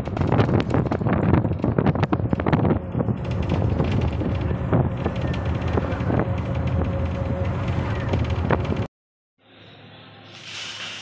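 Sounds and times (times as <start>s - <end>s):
bus body knocking and rattling: 0.0s - 8.9s
bus engine running: 0.0s - 8.9s
rushing wind: 0.0s - 8.9s.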